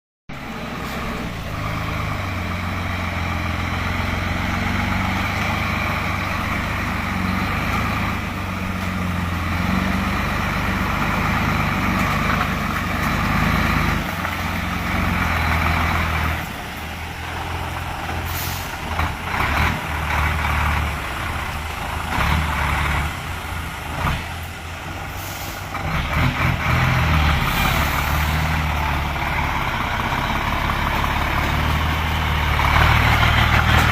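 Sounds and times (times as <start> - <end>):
truck diesel engine under load: 0.3 - 33.9.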